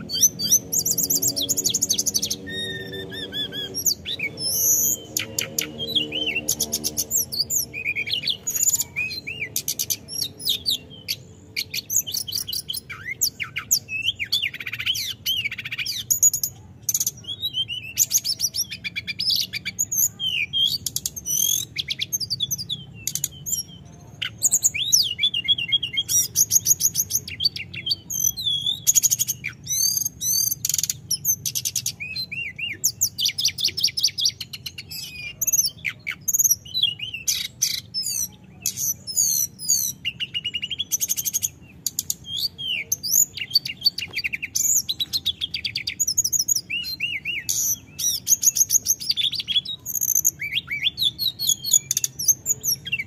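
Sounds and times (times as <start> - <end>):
bird singing trills and whistles: 0.0 - 53.0.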